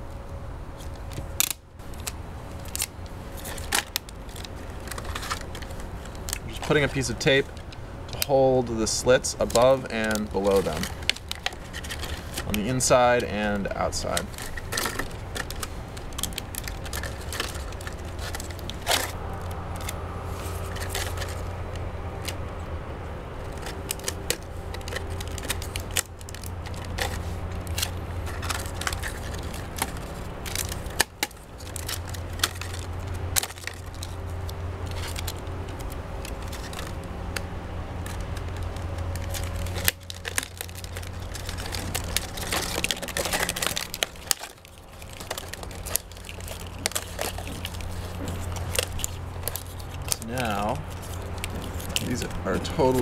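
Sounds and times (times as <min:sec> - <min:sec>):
steady low hum: 0:00.0 - 0:53.0
plastic crinkling and crackling: 0:00.8 - 0:22.7, 0:23.3 - 0:53.0.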